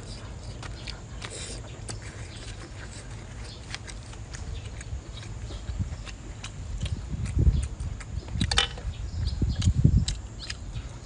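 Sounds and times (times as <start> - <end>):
low steady hum: 0.0 - 11.0
wet chewing clicks and smacks: 0.0 - 11.0.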